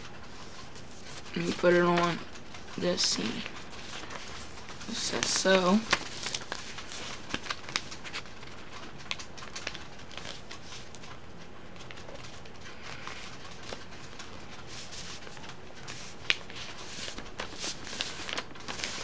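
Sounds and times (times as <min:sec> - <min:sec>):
paper being folded and creased: 0:00.2 - 0:02.4, 0:03.0 - 0:11.2, 0:11.8 - 0:19.0.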